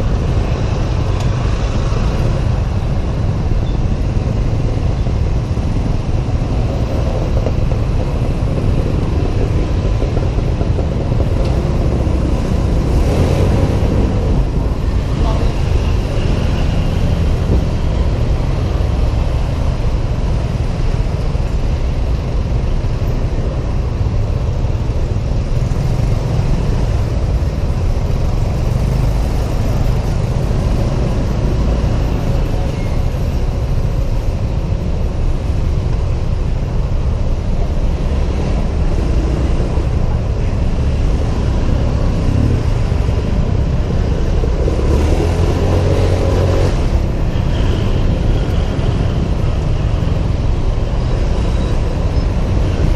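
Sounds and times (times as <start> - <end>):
scooter engine and road noise: 0.0 - 52.9
wind rumble on camera: 0.0 - 52.9.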